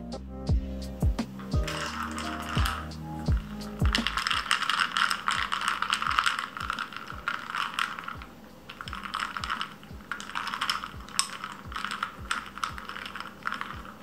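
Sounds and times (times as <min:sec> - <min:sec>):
ice cubes clinking in glass: 0:01.5 - 0:14.0.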